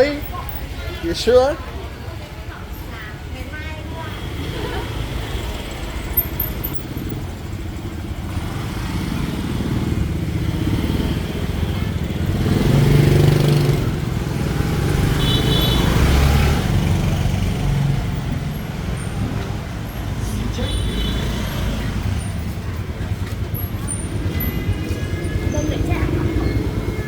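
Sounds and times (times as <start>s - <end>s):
motorbikes and scooters passing: 0.0s - 27.0s.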